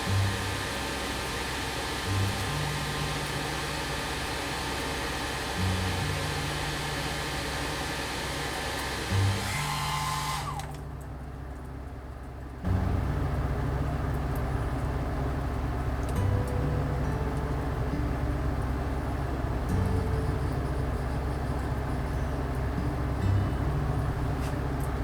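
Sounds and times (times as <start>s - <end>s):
music with low bass notes: 0.0s - 7.8s, 10.8s - 25.0s.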